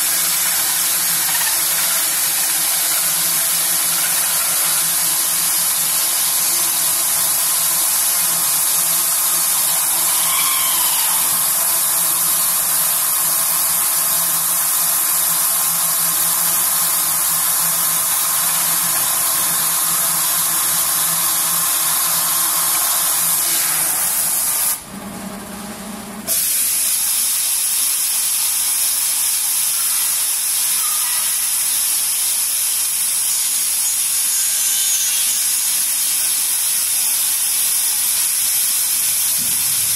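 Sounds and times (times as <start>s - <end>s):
router high hiss and hum: 0.0s - 25.6s, 26.2s - 39.9s.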